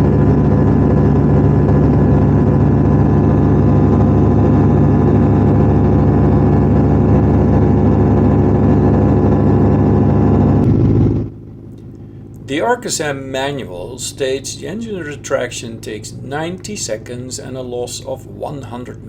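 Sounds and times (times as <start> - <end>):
glider engine running: 0.0 - 19.0.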